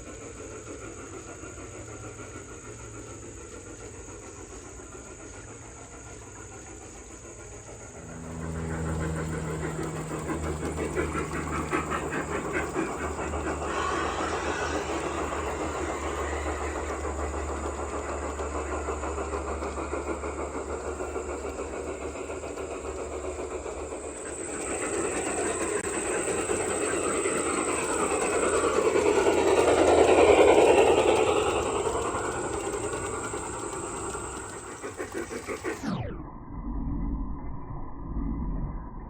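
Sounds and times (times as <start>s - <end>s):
model train wheels clicking on rails: 0.0s - 36.0s.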